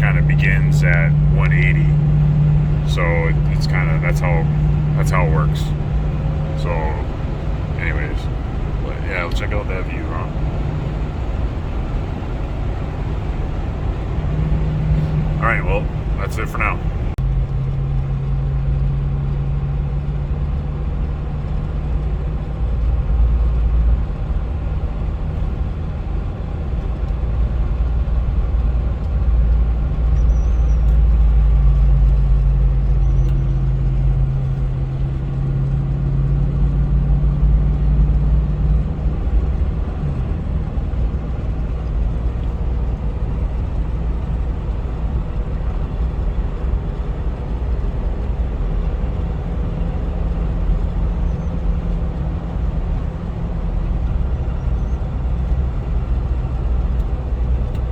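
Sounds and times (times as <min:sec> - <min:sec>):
engine droning under load: 0:00.0 - 0:57.9
road noise: 0:00.0 - 0:57.9.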